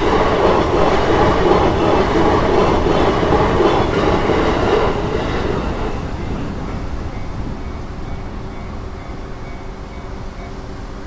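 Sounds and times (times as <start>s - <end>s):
train wheels running on rails: 0.0s - 11.0s.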